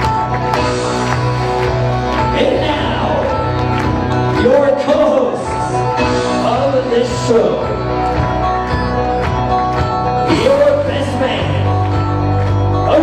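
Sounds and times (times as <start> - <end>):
song over sound system: 0.0 - 13.0.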